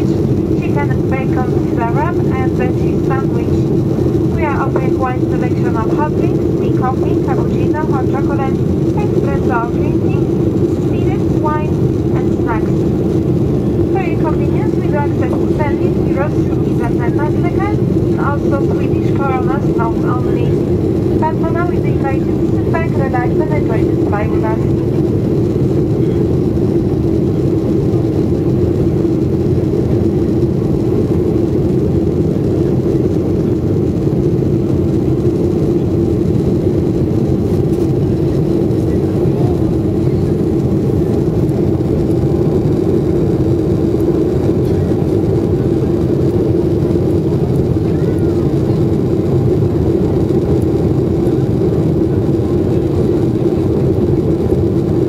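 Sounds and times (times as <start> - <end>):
jet airliner cabin noise: 0.0 - 55.0.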